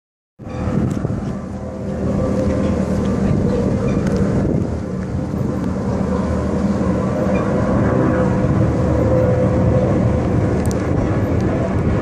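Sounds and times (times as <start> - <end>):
race boat engines humming: 0.4 - 12.0.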